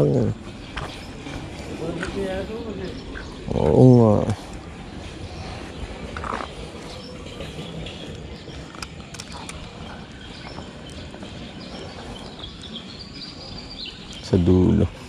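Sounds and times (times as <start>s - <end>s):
outdoor background noise: 0.0s - 15.0s
bird chirps: 0.5s - 3.9s, 4.5s - 15.0s.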